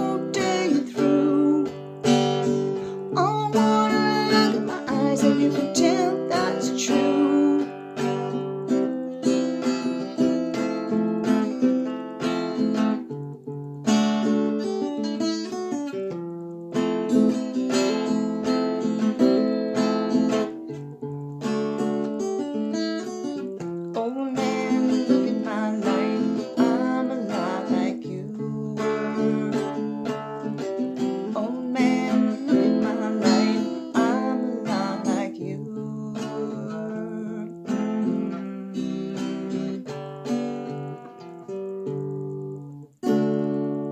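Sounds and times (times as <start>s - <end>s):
acoustic guitar strumming and picking: 0.0s - 43.9s.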